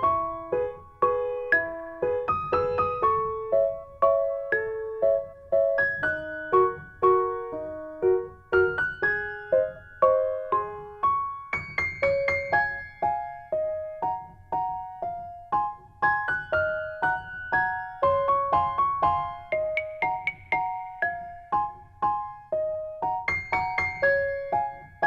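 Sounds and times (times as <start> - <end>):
gentle piano melody: 0.0 - 25.0.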